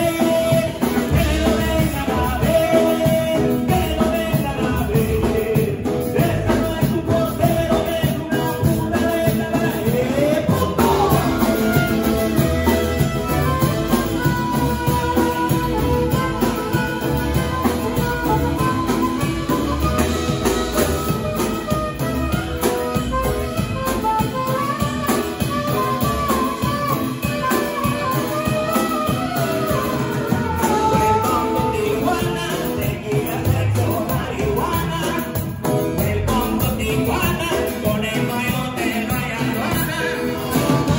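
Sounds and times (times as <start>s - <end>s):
saxophone melody: 0.0s - 33.4s
drum kit: 0.0s - 40.9s.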